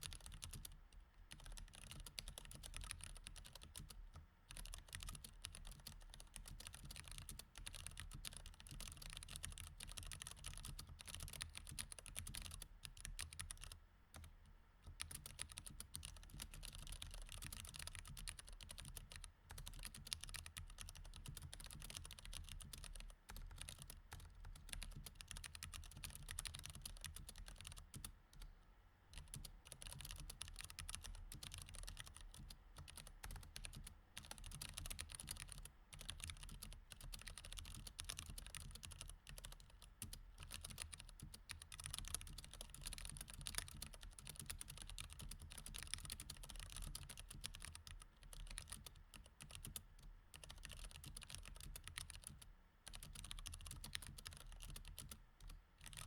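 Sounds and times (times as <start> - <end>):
mechanical keyboard typing: 0.0 - 14.3, 15.0 - 28.1, 29.2 - 56.0.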